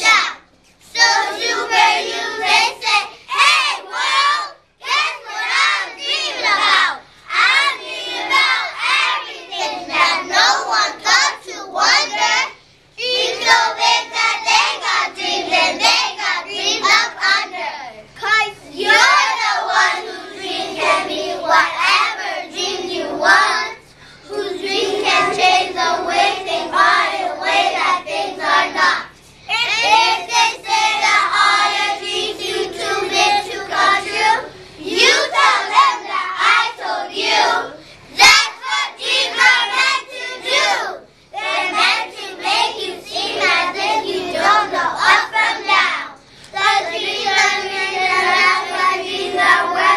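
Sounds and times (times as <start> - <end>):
children singing in unison: 0.0 - 17.9, 18.7 - 49.9.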